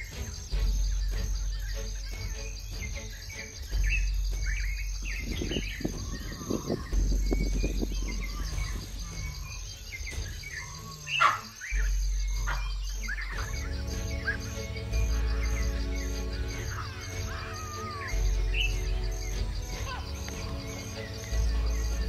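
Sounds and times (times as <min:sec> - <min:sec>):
birds chirping and calling: 0:00.0 - 0:22.0
droning music with bass notes: 0:00.0 - 0:22.0.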